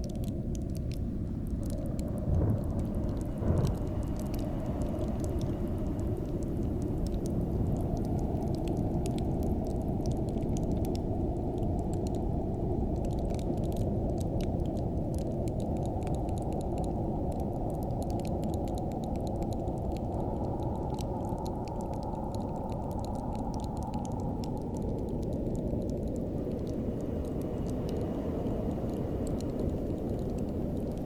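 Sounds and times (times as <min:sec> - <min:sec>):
ice crackling ticks: 0:00.0 - 0:12.3, 0:12.9 - 0:31.0
low wind: 0:00.0 - 0:31.0.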